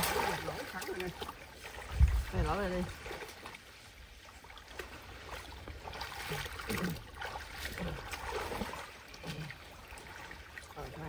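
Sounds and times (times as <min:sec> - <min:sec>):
shallow water sloshing: 0:00.0 - 0:11.0.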